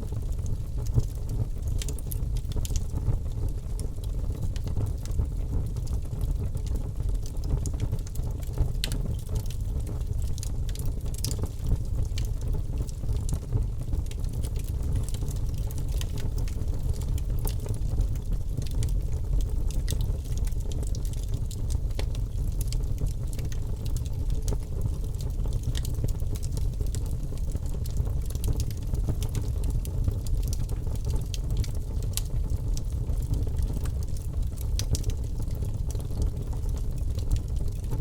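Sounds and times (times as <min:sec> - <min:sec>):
fire crackling and popping: 0:00.0 - 0:38.0
low fire rumble: 0:00.0 - 0:38.0.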